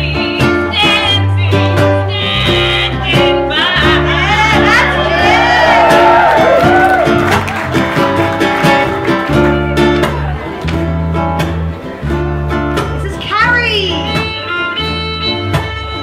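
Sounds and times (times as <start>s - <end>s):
sustained bass notes: 0.0s - 16.0s
ukulele ensemble strumming: 0.0s - 16.0s.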